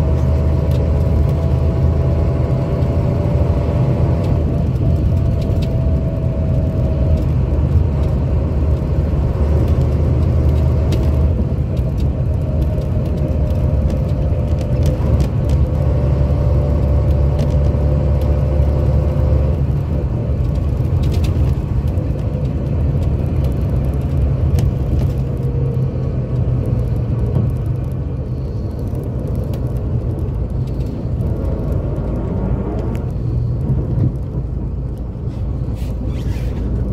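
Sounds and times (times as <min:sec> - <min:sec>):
diesel engine rumbling: 0:00.0 - 0:36.9.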